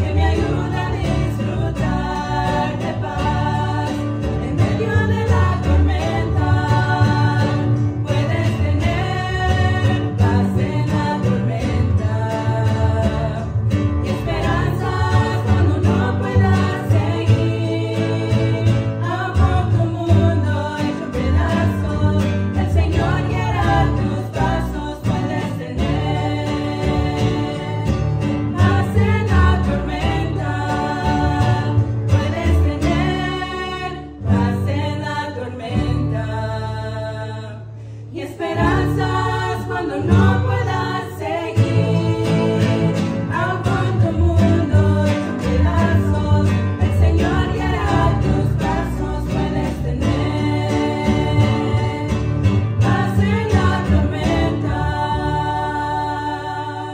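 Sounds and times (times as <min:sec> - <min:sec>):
acoustic guitar: 0:00.0 - 0:56.9
upright bass: 0:00.0 - 0:56.9
women singing together: 0:00.0 - 0:56.9.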